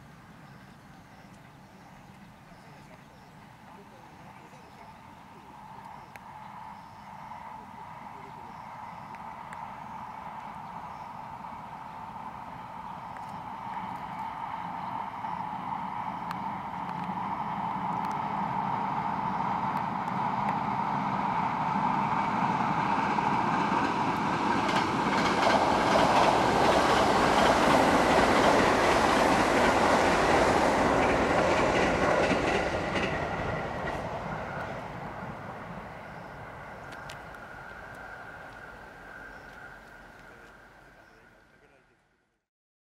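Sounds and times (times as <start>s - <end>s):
train passing on rails: 0.0s - 41.8s.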